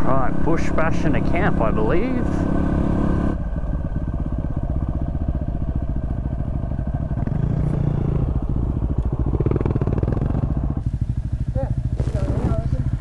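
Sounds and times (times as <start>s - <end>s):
dirt bike engine running: 0.0s - 13.0s
other trail bikes: 0.0s - 13.0s.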